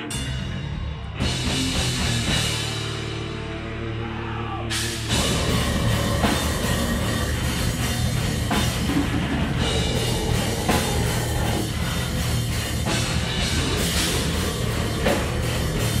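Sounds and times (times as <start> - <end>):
drums crashing: 0.0 - 3.4, 4.8 - 16.0
metal band playing live: 0.0 - 16.0.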